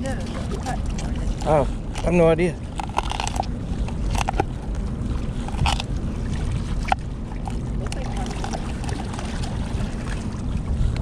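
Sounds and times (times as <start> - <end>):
water rumble around a boat: 0.0 - 11.0
wind: 0.0 - 11.0.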